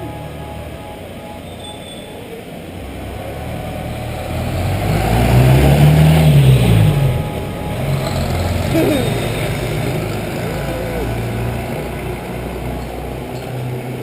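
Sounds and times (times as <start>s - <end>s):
vehicle driving past: 0.0s - 14.0s.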